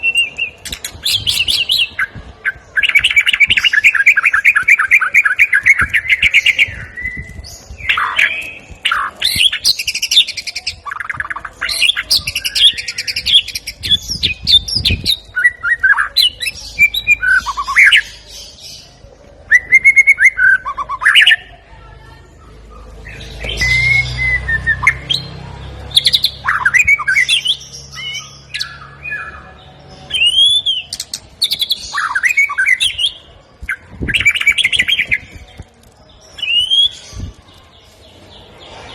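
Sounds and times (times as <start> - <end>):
bird singing whistles and trills: 0.0 - 18.3, 19.5 - 21.5, 23.1 - 25.3, 26.0 - 35.6, 36.2 - 37.3.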